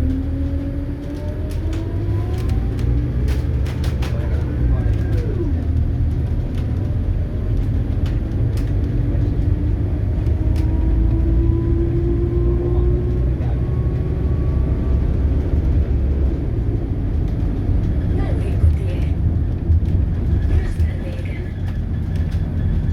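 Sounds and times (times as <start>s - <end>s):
diesel bus engine under load: 0.0s - 22.9s.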